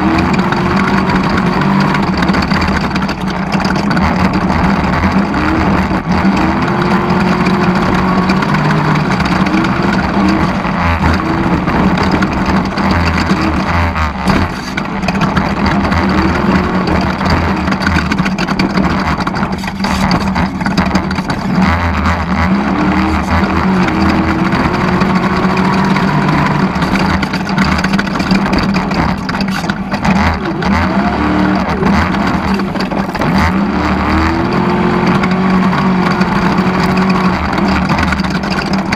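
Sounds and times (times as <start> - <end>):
race vehicle engine revving: 0.0 - 38.9.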